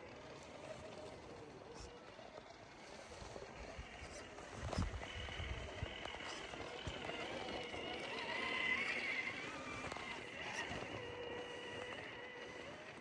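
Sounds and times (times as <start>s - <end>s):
toy car electric motor whining: 0.0s - 13.0s.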